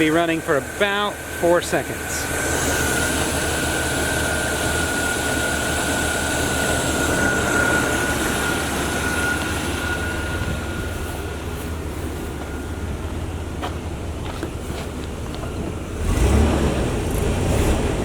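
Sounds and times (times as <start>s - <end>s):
high whine: 0.0s - 17.4s
truck engine rumbling: 0.0s - 18.0s.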